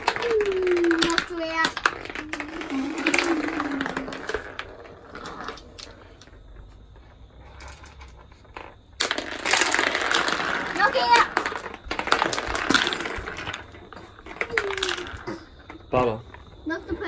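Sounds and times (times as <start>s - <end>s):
small objects dropped on wooden floor: 0.0s - 16.7s.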